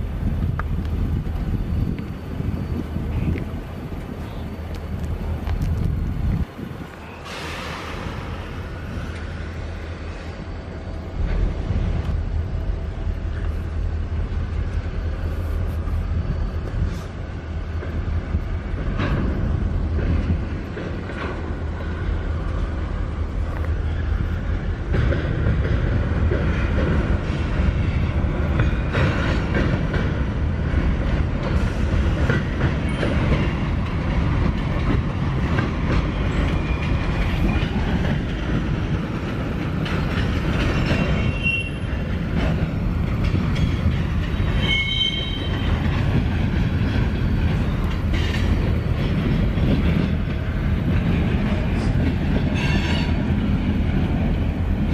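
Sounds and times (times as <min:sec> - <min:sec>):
train clanks: 0:00.0 - 0:54.9
train wheels rumbling on rails: 0:00.0 - 0:54.9.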